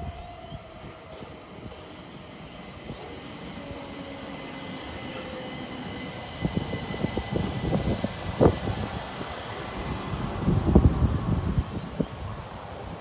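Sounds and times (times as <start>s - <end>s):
electric train whine: 0.0s - 13.0s.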